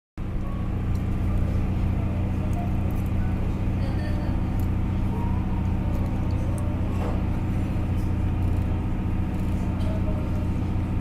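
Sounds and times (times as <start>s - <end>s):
boat engine droning: 0.2s - 11.0s.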